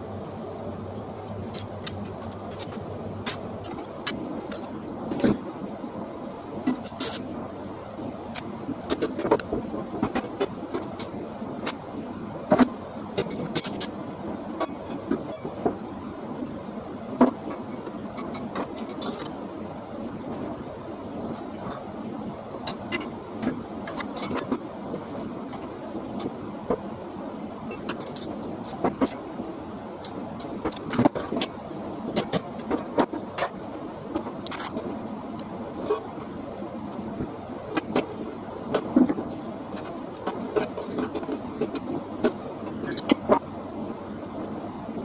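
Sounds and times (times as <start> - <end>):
steady background hiss: 0.0 - 45.0
steady background noise: 0.0 - 45.0.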